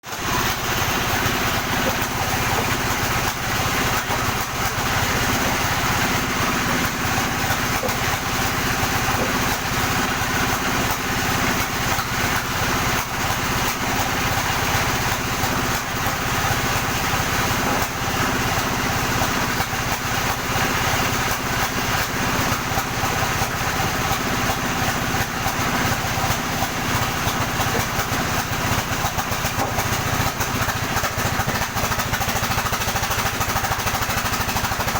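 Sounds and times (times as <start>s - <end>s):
sawmill saw droning: 0.0s - 34.9s.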